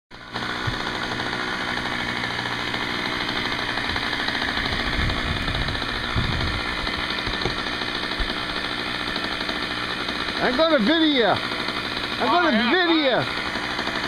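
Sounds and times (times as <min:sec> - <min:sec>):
model airplane engine buzzing: 0:00.1 - 0:14.0.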